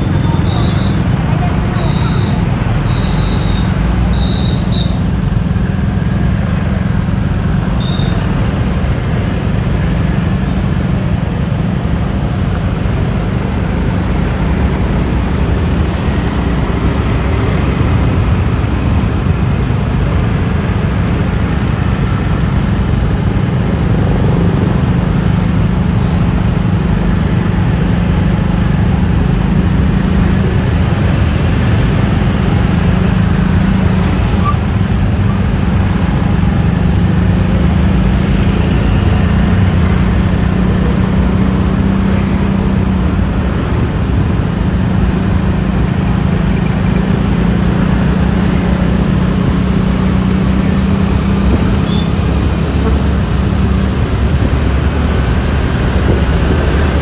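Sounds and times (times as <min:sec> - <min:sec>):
scooter road noise rumble: 0:00.0 - 0:57.0.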